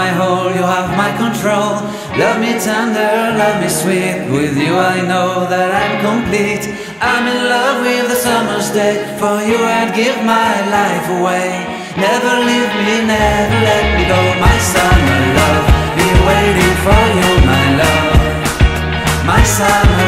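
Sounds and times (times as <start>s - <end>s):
song with sung melody: 0.0s - 20.0s.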